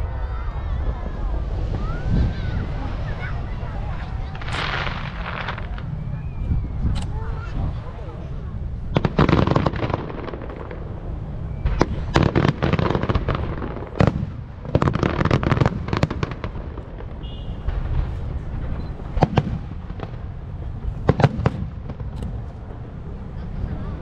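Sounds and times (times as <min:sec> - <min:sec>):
fireworks bangs and crackle: 0:00.0 - 0:24.0.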